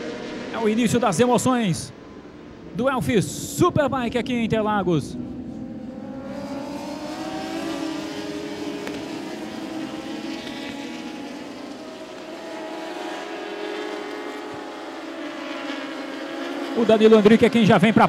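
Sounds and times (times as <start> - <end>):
racing motorcycles engines: 0.0 - 18.0.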